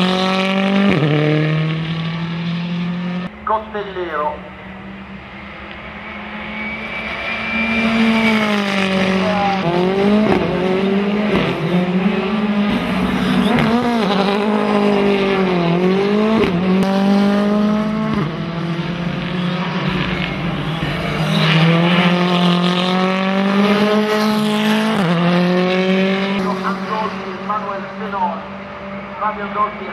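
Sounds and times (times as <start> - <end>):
rally car engine revving: 0.0 - 3.3, 4.5 - 29.9.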